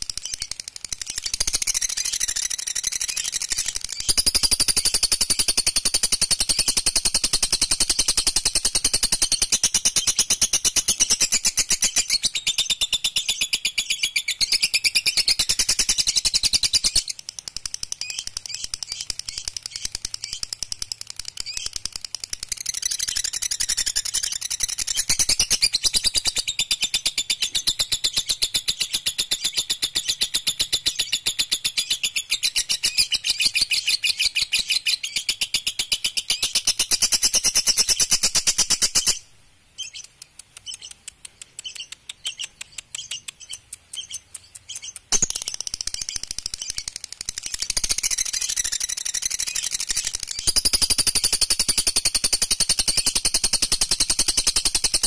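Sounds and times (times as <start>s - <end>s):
lovebird chattering trill: 0.0s - 55.0s.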